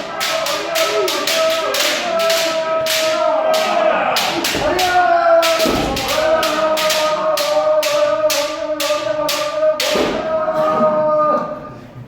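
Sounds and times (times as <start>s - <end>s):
bamboo swords clacking: 0.0s - 10.3s
long drawn-out shout: 0.0s - 11.8s.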